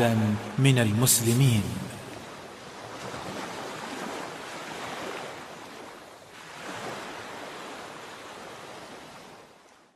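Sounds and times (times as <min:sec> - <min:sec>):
waves breaking on shore: 0:00.0 - 0:09.9.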